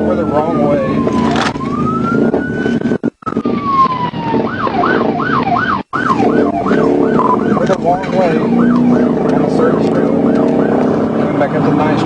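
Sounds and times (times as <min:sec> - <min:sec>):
car engine and road noise: 0:00.0 - 0:12.0
police siren: 0:00.0 - 0:12.0.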